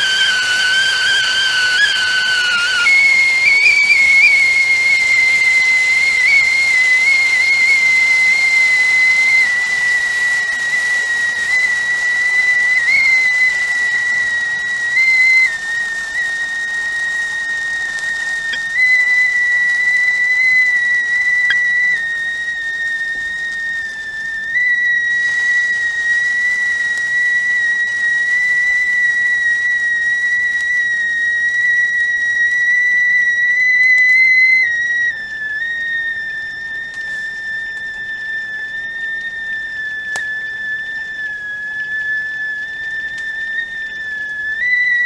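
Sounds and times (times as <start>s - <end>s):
tea kettle whistling: 0.0s - 45.0s.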